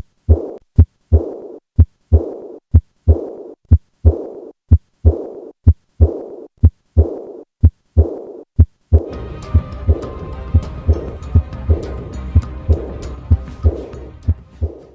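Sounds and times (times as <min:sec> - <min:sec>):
heart murmur: 0:00.0 - 0:14.9
heartbeat: 0:00.0 - 0:14.9.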